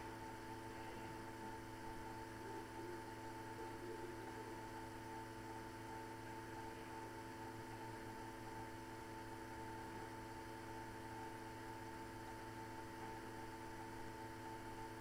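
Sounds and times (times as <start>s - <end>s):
electrical hum and hiss: 0.0s - 15.0s
high steady whine: 0.0s - 15.0s.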